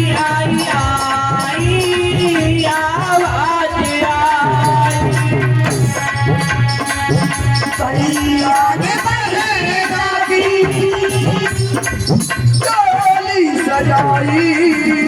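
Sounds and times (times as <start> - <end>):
light rattling percussion: 0.0 - 15.0
tabla: 0.0 - 15.0.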